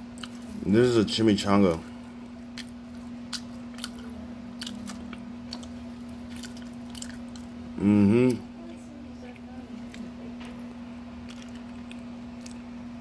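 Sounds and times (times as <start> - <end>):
person chewing food: 0.0 - 0.7, 1.7 - 8.4, 9.8 - 13.0
steady low hum: 0.0 - 13.0.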